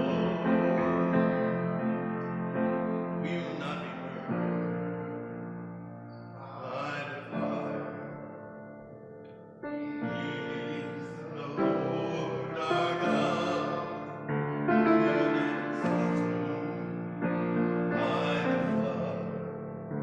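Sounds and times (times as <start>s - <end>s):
congregation singing a hymn: 0.0s - 5.0s, 6.1s - 8.3s, 9.8s - 19.6s.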